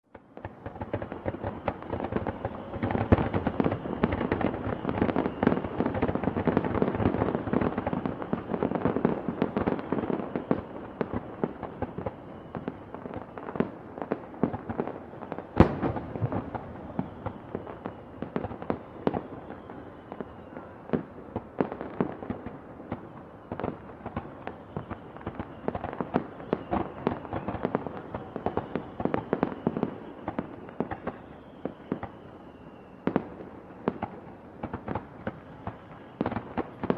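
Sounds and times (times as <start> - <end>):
fireworks bangs and crackling: 0.1 - 36.9.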